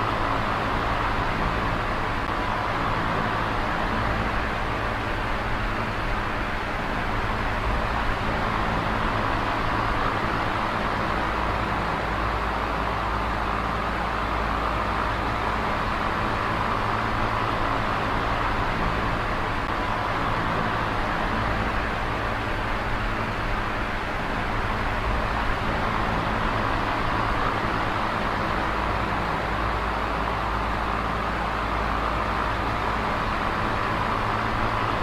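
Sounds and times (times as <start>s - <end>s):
electric fan running: 0.0s - 35.0s.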